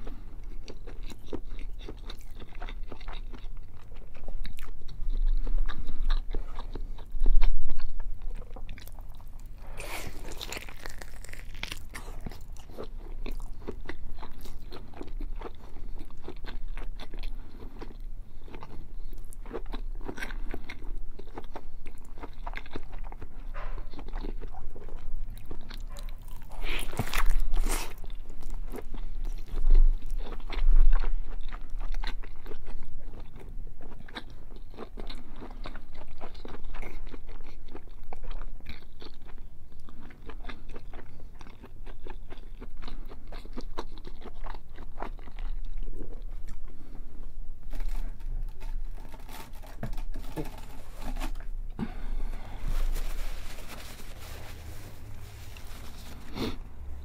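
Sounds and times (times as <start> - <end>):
chewing and biting bacon: 0.0 - 47.0.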